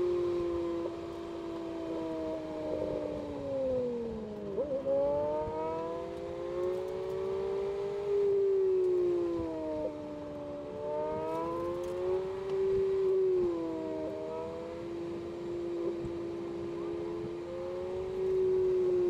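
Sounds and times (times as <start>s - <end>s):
car engine heard from cabin: 0.0s - 19.0s.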